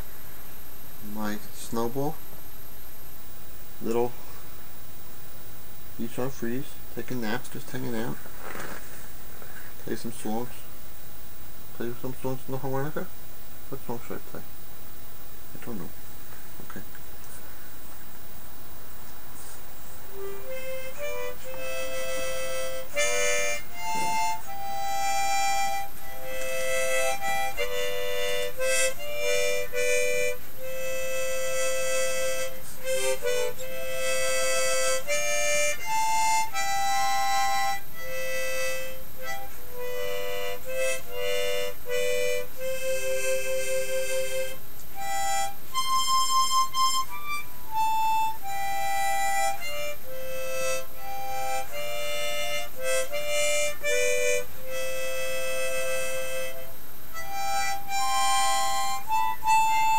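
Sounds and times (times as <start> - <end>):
harmonica playing slow tune: 0.0 - 3.1, 3.8 - 4.6, 6.0 - 10.9, 19.4 - 59.9.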